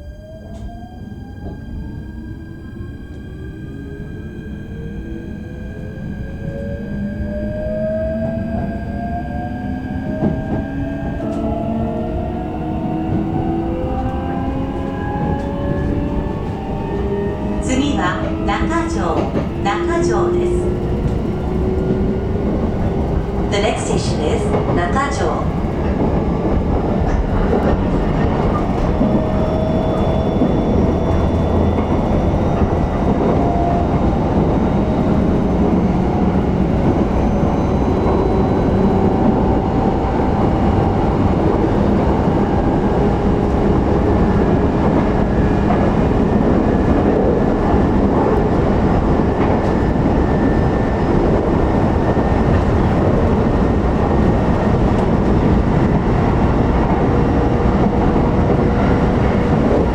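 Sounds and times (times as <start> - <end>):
train wheels rumbling on rail: 0.1 - 59.9.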